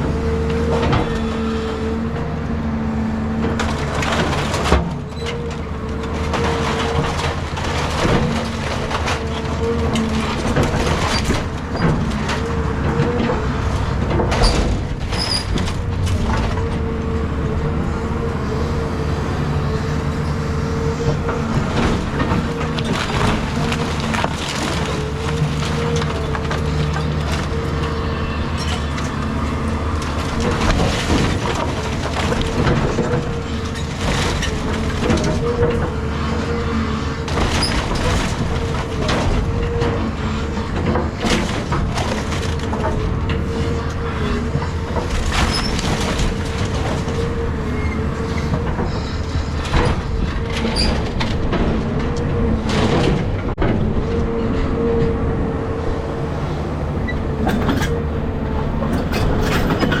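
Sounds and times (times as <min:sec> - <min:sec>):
excavator engine whining: 0:00.0 - 1:00.0
wood cracking and crashing: 0:03.2 - 0:54.0.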